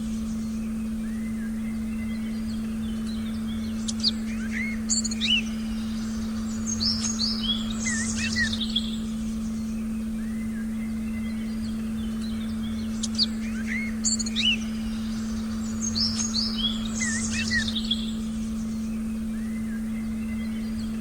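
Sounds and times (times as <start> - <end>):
forest birds chirping: 0.0 - 21.0
steady low electronic tone: 0.0 - 21.0.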